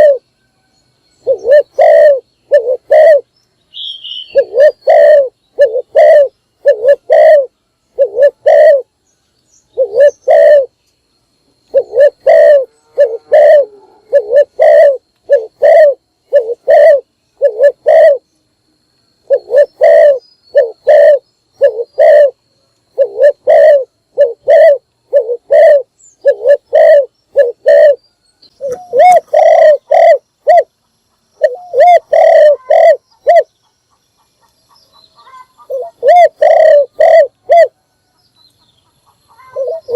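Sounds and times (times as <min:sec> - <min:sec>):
dove cooing: 0:00.0 - 0:00.2, 0:01.2 - 0:08.9, 0:09.8 - 0:10.8, 0:11.6 - 0:18.3, 0:19.2 - 0:28.0, 0:28.6 - 0:30.8, 0:31.4 - 0:33.5, 0:34.8 - 0:37.8, 0:39.3 - 0:39.9.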